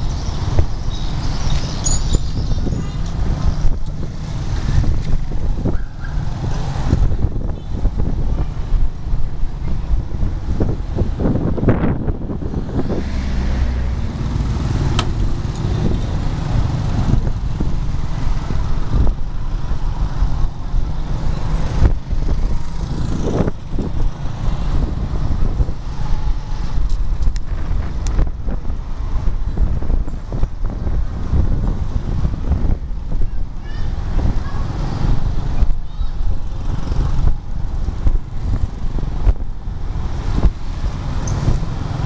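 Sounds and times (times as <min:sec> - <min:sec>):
passing motorbikes and cars: 0:00.0 - 0:42.0
wind and road noise: 0:00.0 - 0:42.0.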